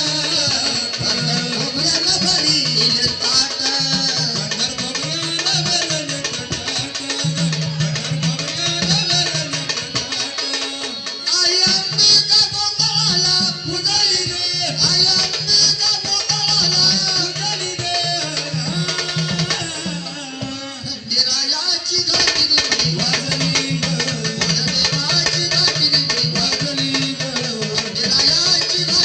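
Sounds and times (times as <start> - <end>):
folk song with percussion: 0.0 - 29.0.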